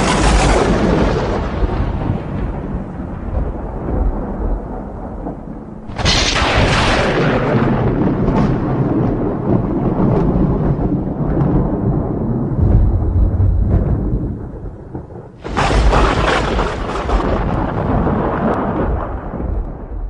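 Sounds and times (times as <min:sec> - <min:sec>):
sharp thunderclap: 0:00.0 - 0:20.0
thunder rumbling: 0:00.0 - 0:20.0.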